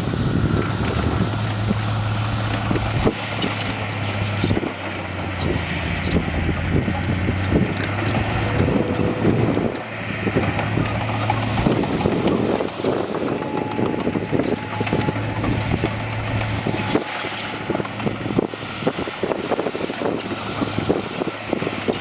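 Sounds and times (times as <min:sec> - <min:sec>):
bulldozer diesel engine droning: 0:00.0 - 0:22.0
metal and rock clanking: 0:00.6 - 0:20.4.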